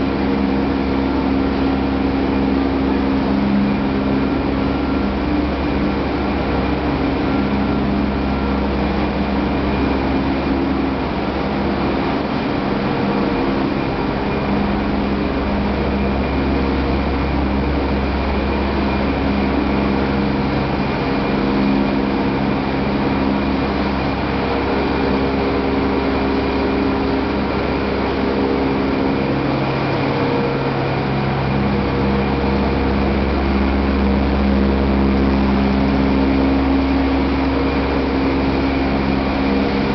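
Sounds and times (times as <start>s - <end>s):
factory machinery humming: 0.0s - 39.9s.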